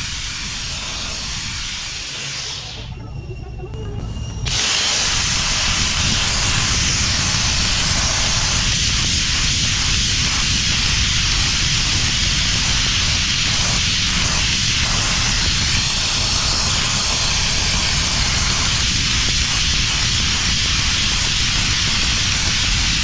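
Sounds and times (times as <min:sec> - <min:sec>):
sandblasting hiss: 0:00.0 - 0:03.0, 0:03.9 - 0:23.0
constant low rumble: 0:00.0 - 0:23.0.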